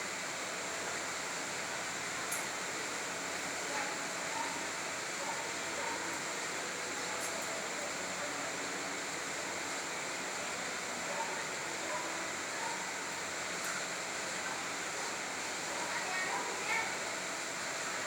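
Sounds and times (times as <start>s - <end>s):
hissing outdoor background noise: 0.0s - 18.0s.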